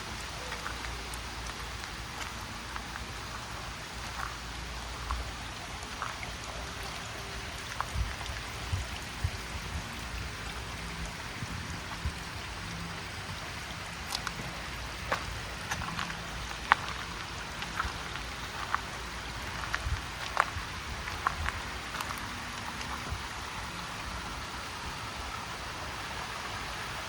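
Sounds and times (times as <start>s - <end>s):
raindrops ticking on surfaces: 0.0s - 27.0s
steady rain falling: 0.0s - 27.0s.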